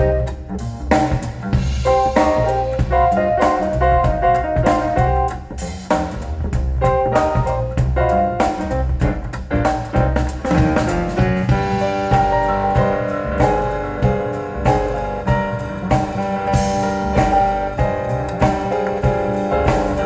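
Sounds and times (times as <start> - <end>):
blues jazz music over loudspeakers: 0.0 - 20.0.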